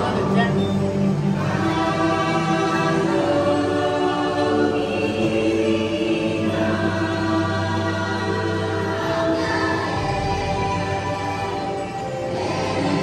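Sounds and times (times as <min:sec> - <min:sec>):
steady low drone: 0:00.0 - 0:13.0
wordless choir singing: 0:00.0 - 0:13.0.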